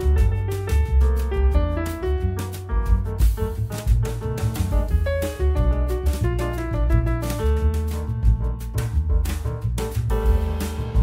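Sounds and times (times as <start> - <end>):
upbeat jazzy music: 0.0 - 11.0.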